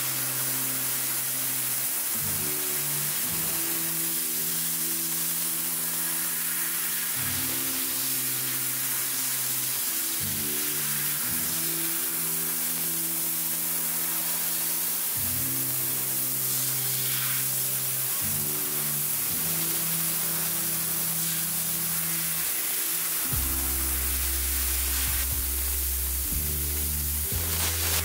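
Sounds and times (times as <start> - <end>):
laser cutting hiss and sizzle: 0.0 - 28.0
slow music of sustained chords: 0.0 - 28.0.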